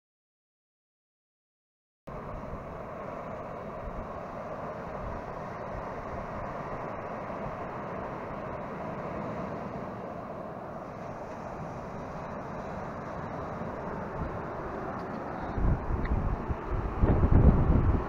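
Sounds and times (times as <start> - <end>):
surf breaking on beach: 2.1 - 18.0.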